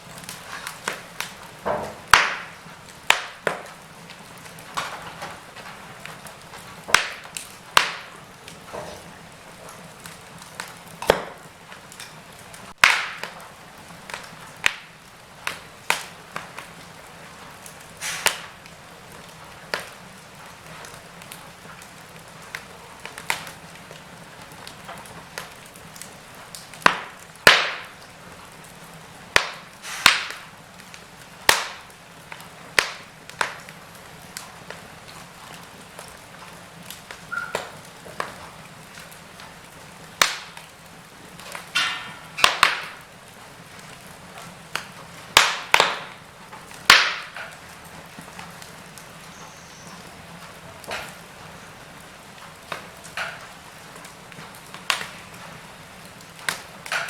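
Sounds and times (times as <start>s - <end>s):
faint steady hiss: 0.0s - 57.0s
wood fire crackling: 0.0s - 57.0s.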